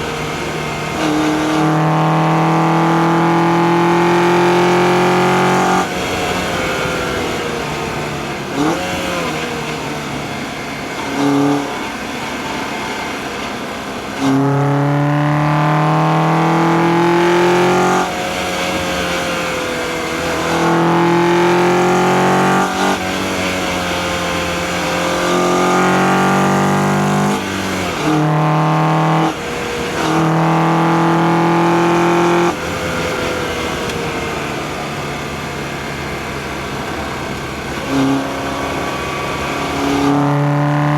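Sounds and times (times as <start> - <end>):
car engine pulling hard: 0.0 - 40.9.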